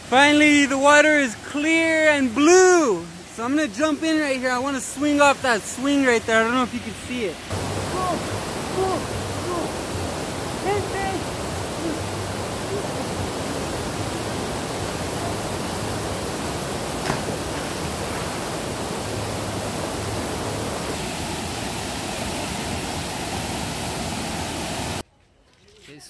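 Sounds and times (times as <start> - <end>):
waterfall roar: 0.0 - 25.0.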